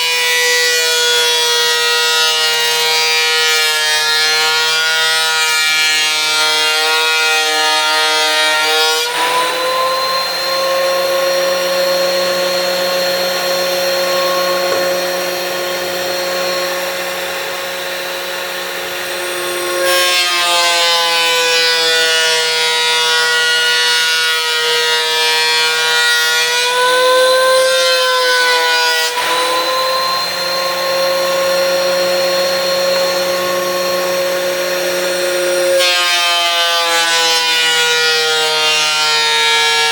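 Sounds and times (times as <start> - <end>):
thickness planer motor whine: 0.0 - 39.9.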